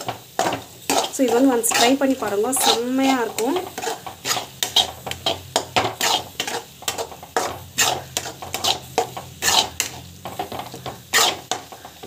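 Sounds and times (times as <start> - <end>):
spatula scraping a pan: 0.0 - 12.0.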